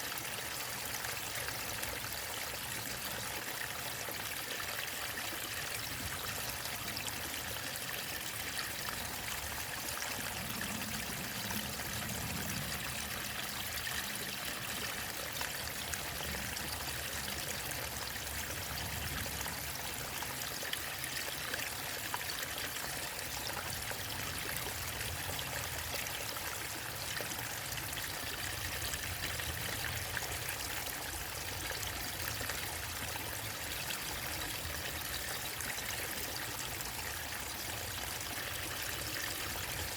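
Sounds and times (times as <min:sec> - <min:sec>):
small waterfall rushing: 0:00.0 - 0:39.9
water trickling and splashing: 0:00.0 - 0:39.9.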